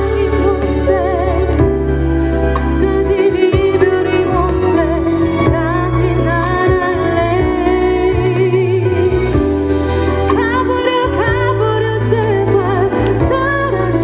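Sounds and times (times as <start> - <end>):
instrumental accompaniment: 0.0 - 14.0
woman singing into a microphone: 0.0 - 14.0.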